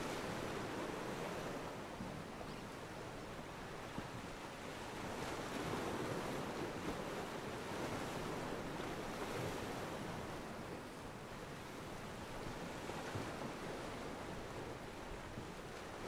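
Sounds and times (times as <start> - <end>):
waves washing against pier: 0.0 - 2.4, 3.0 - 16.0.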